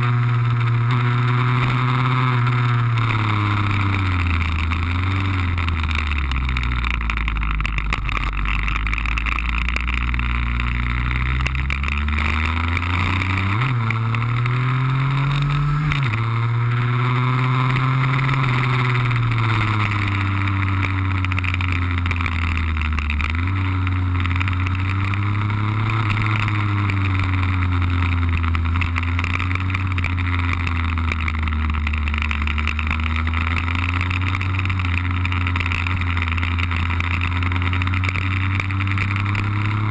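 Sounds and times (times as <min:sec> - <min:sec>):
scooter two-stroke engine: 0:00.0 - 0:39.9.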